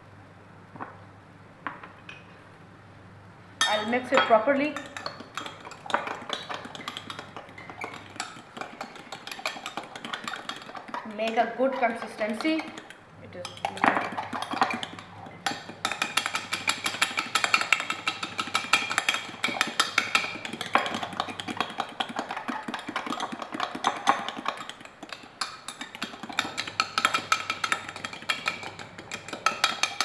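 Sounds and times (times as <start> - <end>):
utensil beating batter in a bowl: 3.6 - 30.0.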